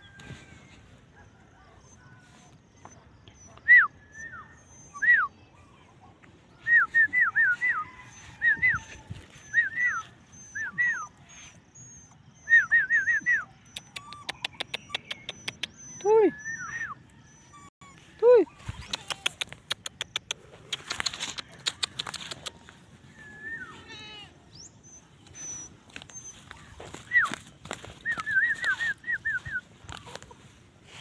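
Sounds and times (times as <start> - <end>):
puppy whimpering and yipping: 1.2 - 5.8, 7.5 - 23.8, 24.5 - 30.5.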